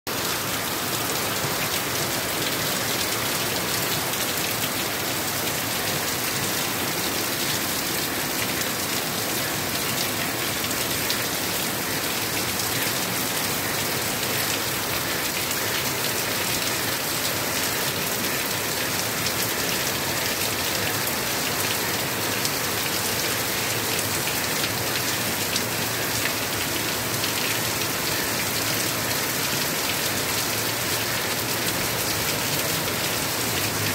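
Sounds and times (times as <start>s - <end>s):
heavy rain on standing water: 0.1s - 33.9s.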